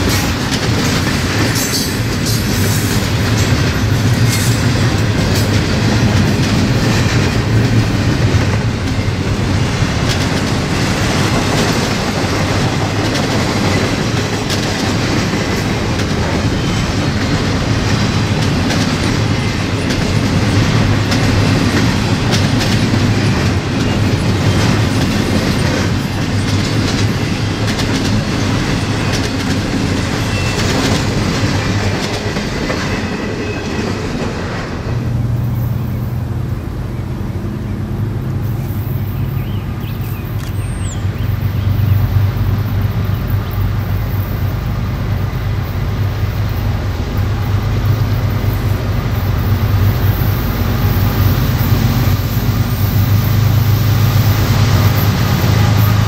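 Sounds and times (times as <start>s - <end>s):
train wheels rumbling on rail: 0.0s - 56.0s
wheels clickety-clack on track: 0.0s - 56.0s.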